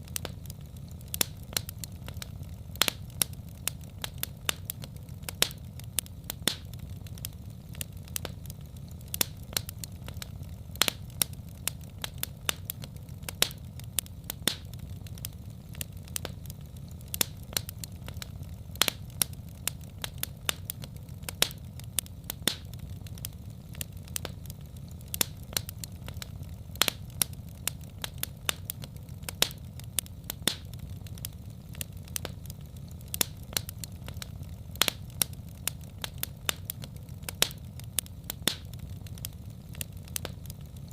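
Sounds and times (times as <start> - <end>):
low rumble of burning fire: 0.0 - 40.9
wood fire crackling and popping: 0.0 - 40.9.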